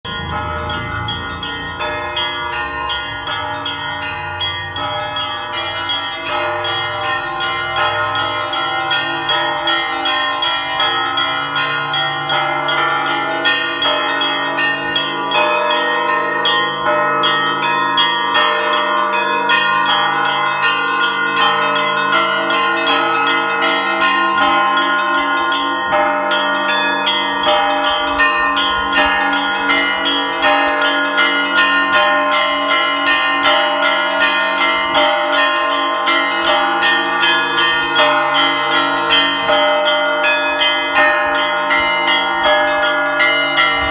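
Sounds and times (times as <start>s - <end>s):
church bells pealing: 0.0s - 43.9s.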